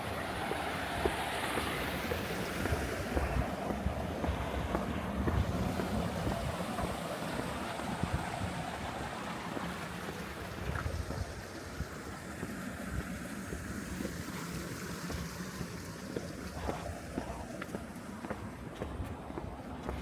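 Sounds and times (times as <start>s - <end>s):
stream flowing: 0.0s - 20.0s
wind buffeting microphone: 0.0s - 20.0s.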